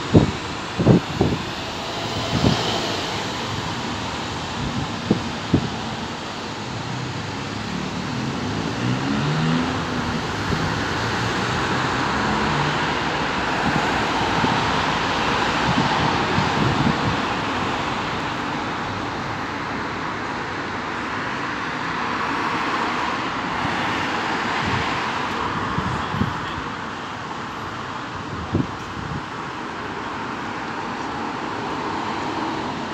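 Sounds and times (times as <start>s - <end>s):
road traffic passing: 0.0s - 32.9s.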